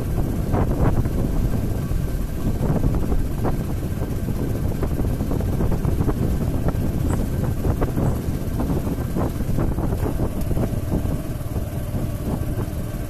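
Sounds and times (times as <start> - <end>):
motorcycle engine running: 0.0 - 13.0
wind rumbling on microphone: 0.0 - 13.0.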